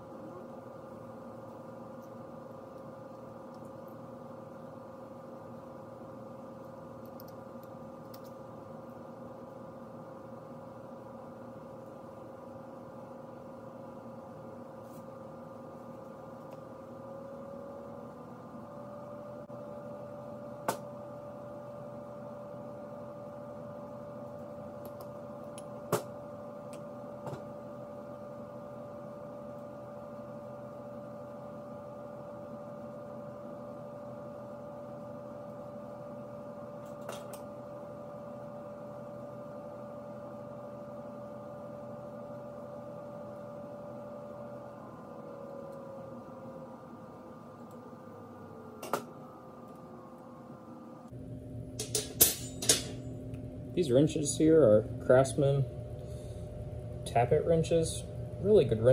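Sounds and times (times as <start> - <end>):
background hum with held tone: 0.0 - 58.9.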